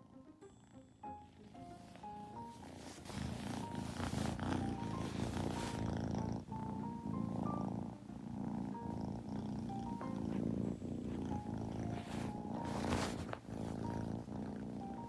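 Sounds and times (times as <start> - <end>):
soft music with bell-like notes: 0.0 - 15.0
kitten purring: 0.5 - 15.0.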